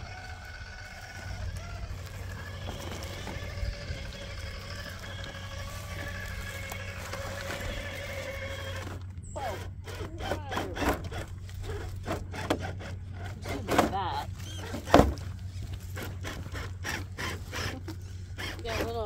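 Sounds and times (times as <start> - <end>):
rc car motor whining: 0.0 - 19.0
tires knocking and scraping on stone: 0.0 - 19.0.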